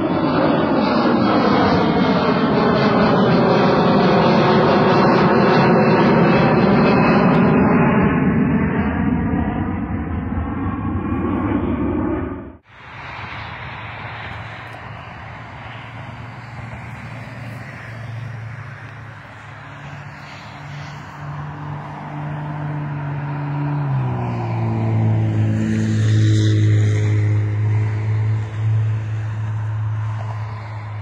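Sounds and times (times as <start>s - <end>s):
highway traffic noise: 0.0s - 31.0s
low engine drone: 0.0s - 31.0s.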